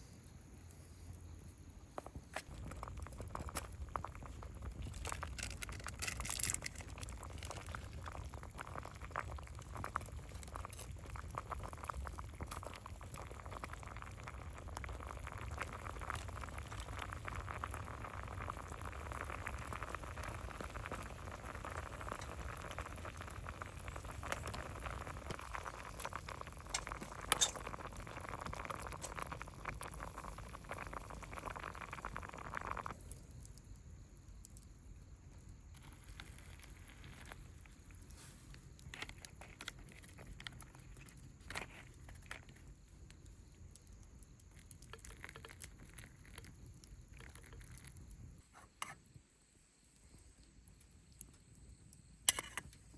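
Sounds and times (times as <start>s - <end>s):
light clicks and crackles: 0.0s - 52.9s
water boiling: 0.0s - 52.9s.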